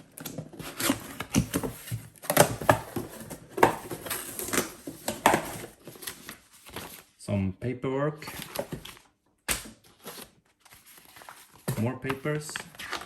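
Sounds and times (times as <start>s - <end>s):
packaging rustling and scraping: 0.0s - 7.1s, 8.2s - 13.0s.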